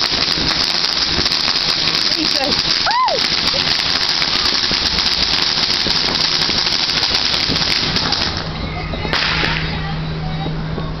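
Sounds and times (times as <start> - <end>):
sharp firework crack: 0.0 - 9.8
fireworks crackling: 0.0 - 10.8.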